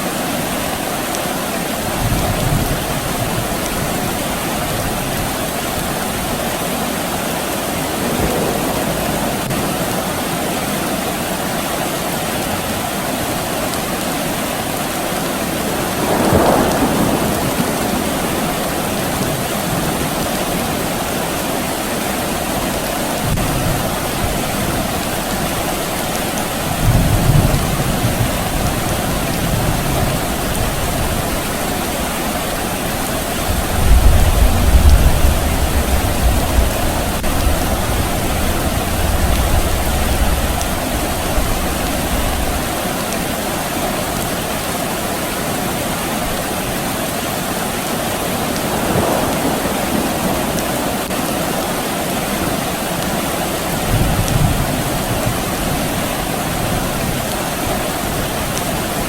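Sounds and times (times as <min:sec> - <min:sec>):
steady rain falling: 0:00.0 - 0:59.0
distant thunder rumbling: 0:01.9 - 0:11.6, 0:14.8 - 0:42.8, 0:47.4 - 0:58.6.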